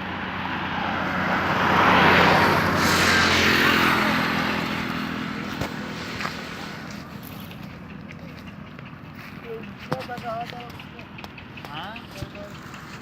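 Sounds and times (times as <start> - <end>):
motor vehicle driving past: 0.0 - 13.0.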